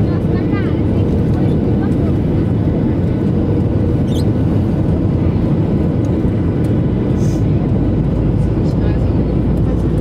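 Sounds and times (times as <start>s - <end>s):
jet cabin engine rumble: 0.0s - 10.0s.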